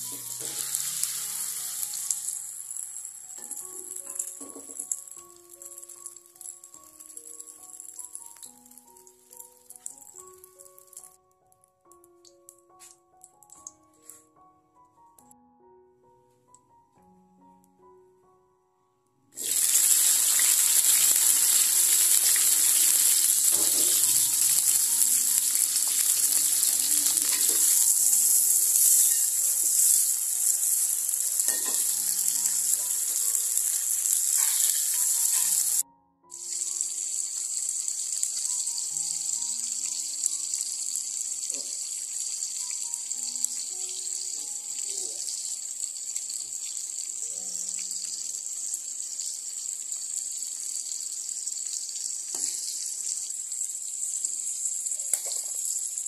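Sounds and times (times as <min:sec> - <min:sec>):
food sizzling in hot oil: 0:00.0 - 0:11.2, 0:19.4 - 0:56.0
broth simmering with soft hiss: 0:00.0 - 0:14.3, 0:19.3 - 0:56.0.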